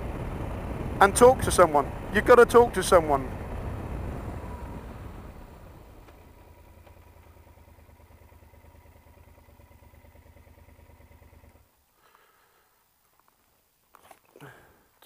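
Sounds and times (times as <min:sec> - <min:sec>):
motorcycle engine idling: 0:00.0 - 0:12.7.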